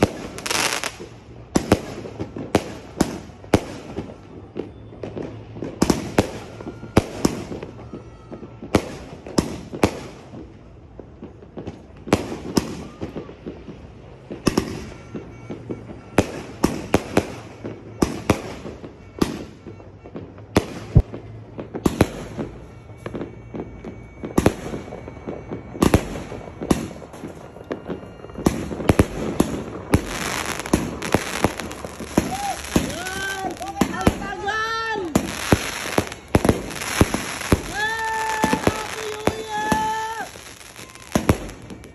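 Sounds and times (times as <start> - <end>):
fireworks bangs and crackle: 0.0 - 41.9.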